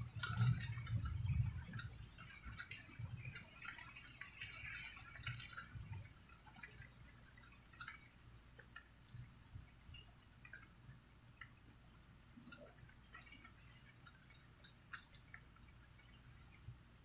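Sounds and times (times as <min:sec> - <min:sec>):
rain dripping and pattering: 0:00.0 - 0:17.0.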